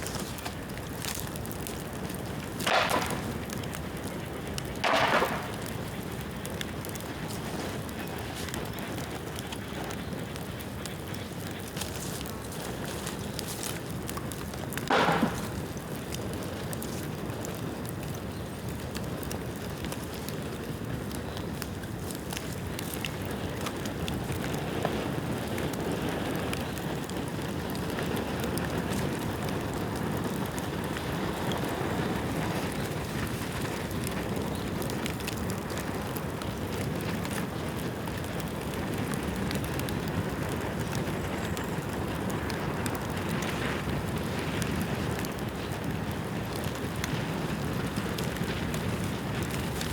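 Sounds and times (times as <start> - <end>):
bonfire crackling and snapping: 0.0 - 49.9.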